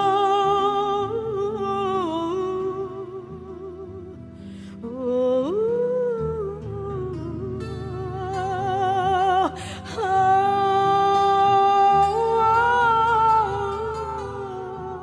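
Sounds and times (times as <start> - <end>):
woman singing with vibrato: 0.0 - 4.2, 4.8 - 15.0.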